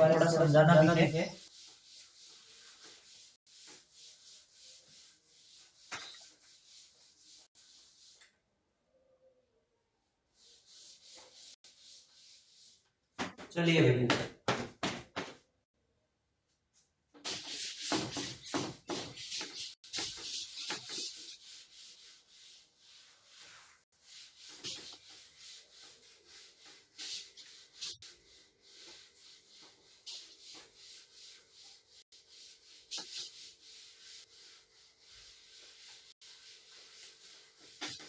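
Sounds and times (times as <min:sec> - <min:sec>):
cloth wiping a chalkboard: 0:00.0 - 0:08.4, 0:10.3 - 0:13.5, 0:16.7 - 0:38.0.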